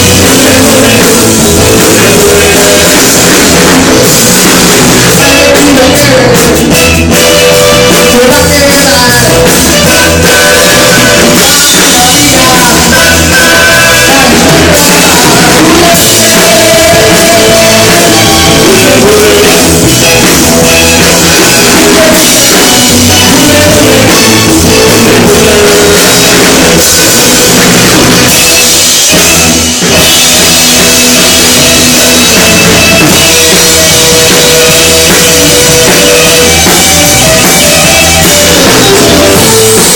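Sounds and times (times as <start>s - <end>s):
drum kit beat: 0.0s - 39.9s
loud rock music: 0.0s - 39.9s.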